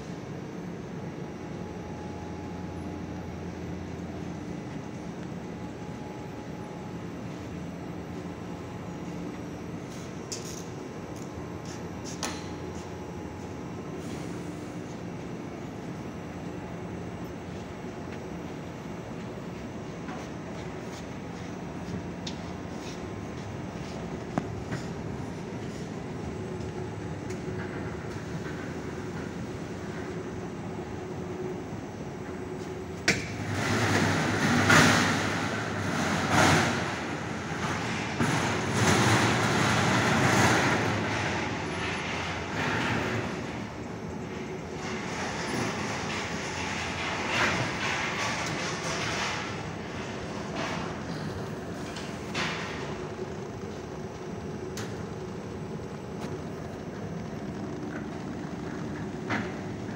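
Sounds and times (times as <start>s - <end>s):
printing machine humming: 0.0s - 59.9s.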